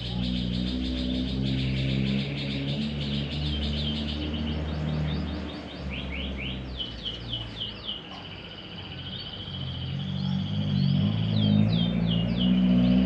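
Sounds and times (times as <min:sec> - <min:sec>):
canary singing: 0:00.0 - 0:13.0.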